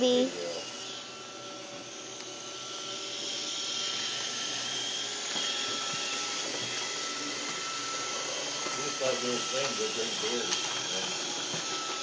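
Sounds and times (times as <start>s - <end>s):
robot vacuum whirring hum: 0.0s - 12.0s.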